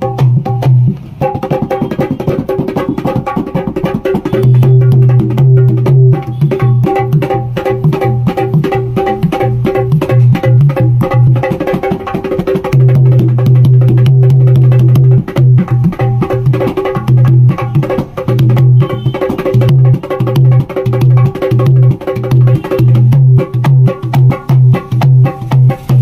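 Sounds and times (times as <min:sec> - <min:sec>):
hand drum slaps: 0:00.0 - 0:26.0.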